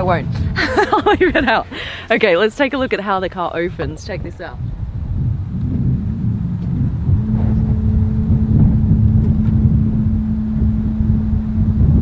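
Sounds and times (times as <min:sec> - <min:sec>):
steady electric hum: 0:00.0 - 0:12.0
wind rumbling on microphone: 0:00.0 - 0:12.0.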